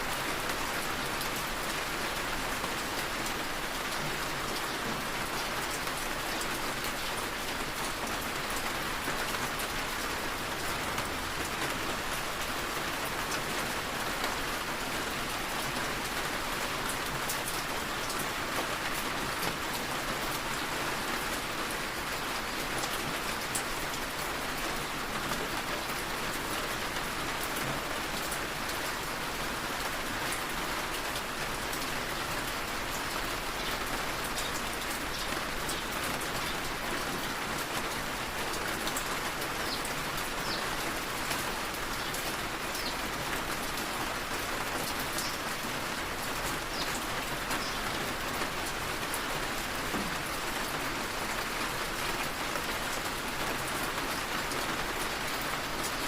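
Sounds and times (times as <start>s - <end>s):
rain tapping on a window: 0.0s - 56.0s.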